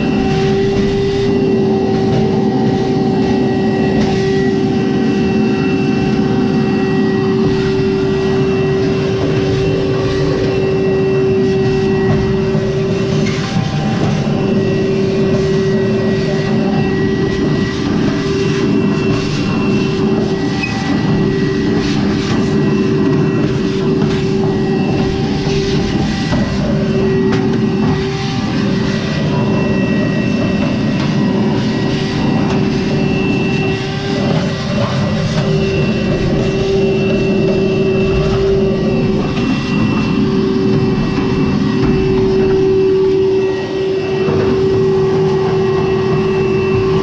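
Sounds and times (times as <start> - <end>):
drum rumbling: 0.0 - 47.0
dryer motor humming: 0.0 - 47.0.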